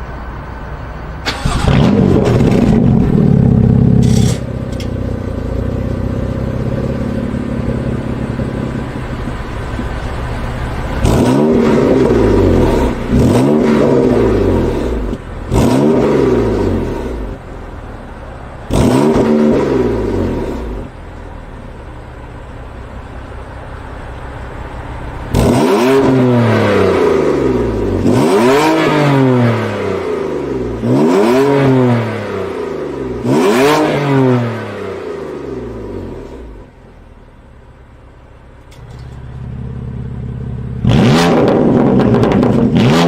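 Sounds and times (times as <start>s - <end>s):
car engine revving: 1.2s - 23.1s, 24.4s - 36.9s, 39.0s - 43.0s.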